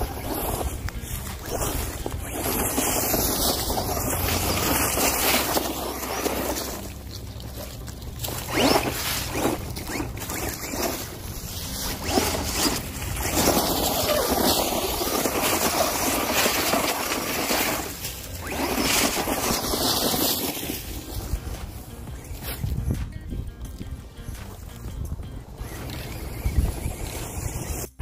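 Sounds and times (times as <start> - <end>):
toy truck tyres hissing on pavement: 0.0 - 22.8, 25.6 - 28.0
knocks and scrapes: 0.0 - 23.2
wind noise on microphone: 0.0 - 28.0.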